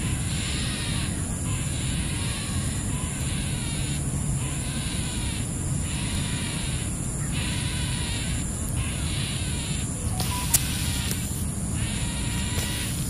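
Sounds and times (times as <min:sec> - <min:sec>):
insects buzzing in pulses: 0:00.0 - 0:13.0.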